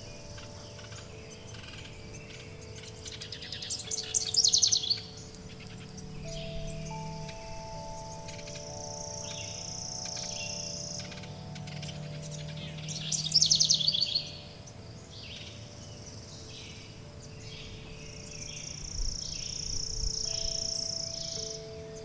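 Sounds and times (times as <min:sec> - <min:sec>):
birds chirping and singing: 0:00.0 - 0:22.0
loud bird trill: 0:00.0 - 0:22.0
wind chimes ringing: 0:00.0 - 0:22.0.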